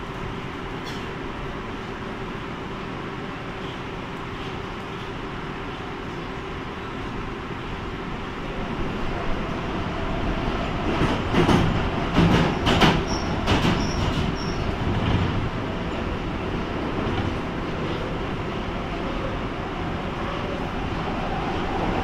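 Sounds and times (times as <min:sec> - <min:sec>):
train rumbling through tunnel: 0:00.0 - 0:22.0.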